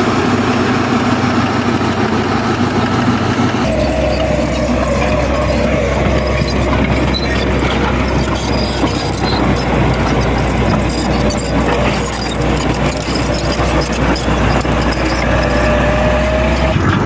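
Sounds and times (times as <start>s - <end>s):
construction machinery engine rumble: 0.0s - 17.0s.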